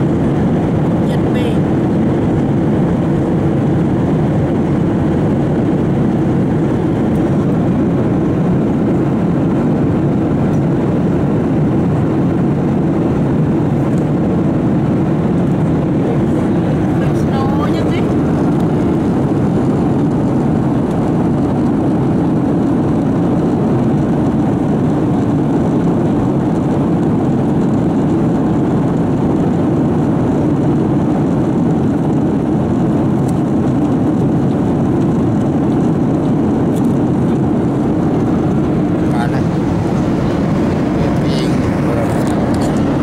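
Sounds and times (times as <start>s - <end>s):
airliner cabin noise: 0.0s - 43.0s.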